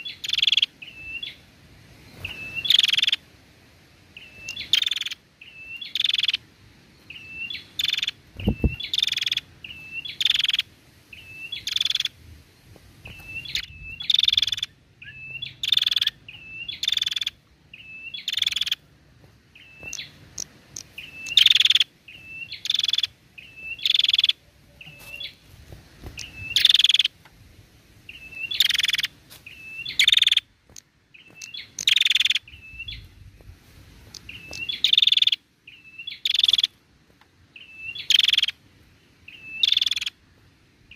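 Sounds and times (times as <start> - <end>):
bird chirping: 0.0 - 1.4, 2.0 - 3.2, 4.1 - 12.2, 13.0 - 25.4, 26.0 - 27.2, 28.1 - 33.3, 34.0 - 36.8, 37.5 - 40.2.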